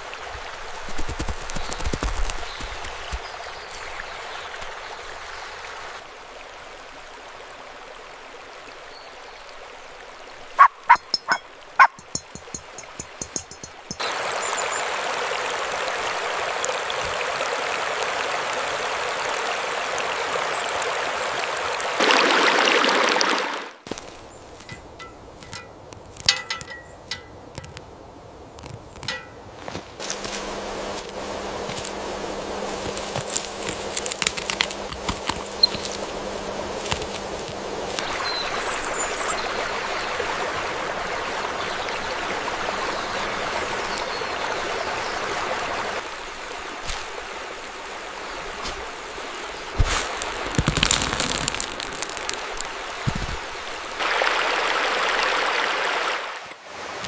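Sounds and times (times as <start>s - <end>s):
stream water rushing: 0.0s - 28.0s, 28.6s - 57.0s.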